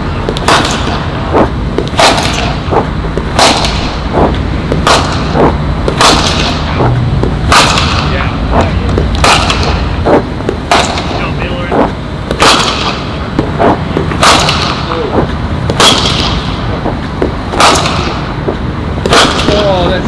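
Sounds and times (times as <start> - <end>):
cricket bat striking ball: 0.3 - 19.7.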